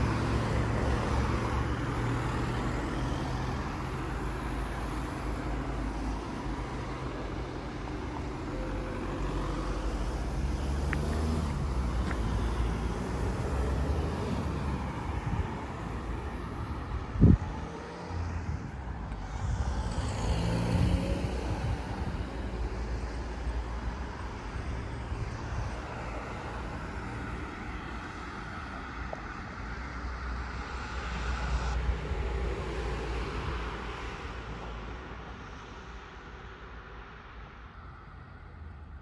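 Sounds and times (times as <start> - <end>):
cars passing on street: 0.0 - 39.0.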